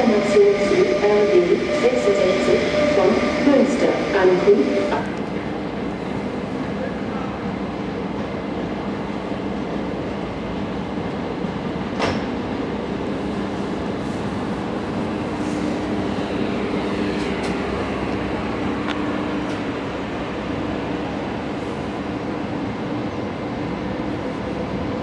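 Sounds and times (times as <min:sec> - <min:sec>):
train coaches rumbling: 0:00.0 - 0:25.0.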